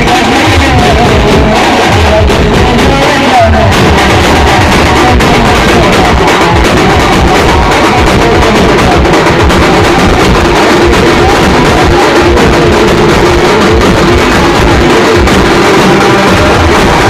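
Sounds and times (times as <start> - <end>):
amplified banjo melody: 0.0 - 17.0
large drums beaten with sticks: 0.0 - 17.0.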